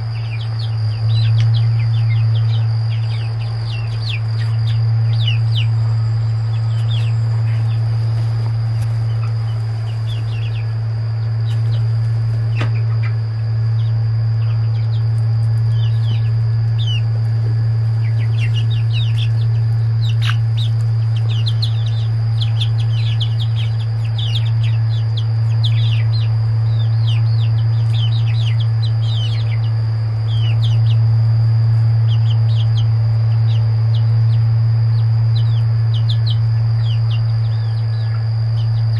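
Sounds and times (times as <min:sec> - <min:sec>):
chicks peeping: 0:00.0 - 0:38.9
loud steady low hum: 0:00.0 - 0:38.9.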